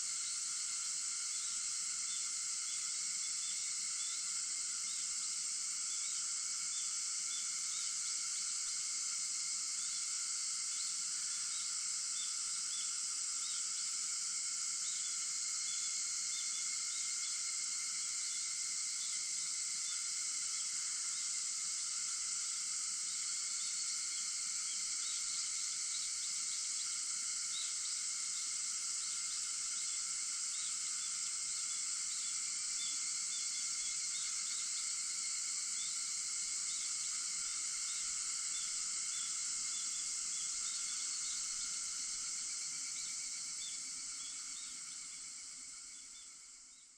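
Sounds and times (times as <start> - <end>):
cicadas chorus: 0.0 - 46.9
short insect chirps: 0.0 - 46.9.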